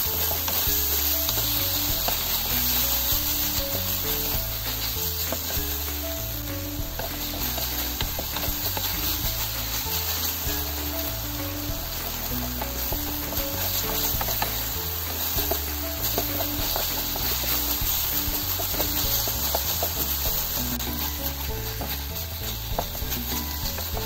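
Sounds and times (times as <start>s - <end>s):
background music with bass: 0.0s - 24.0s
meat sizzling in a frying pan: 0.0s - 24.0s
wooden spatula stirring: 0.0s - 24.0s.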